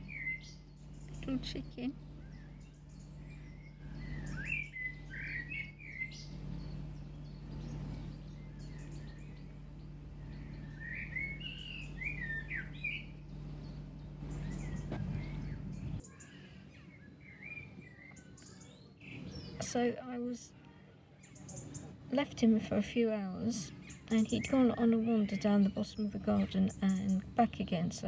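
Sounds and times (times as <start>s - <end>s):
songbirds singing: 0.0s - 28.0s
steady low hum: 0.0s - 28.0s.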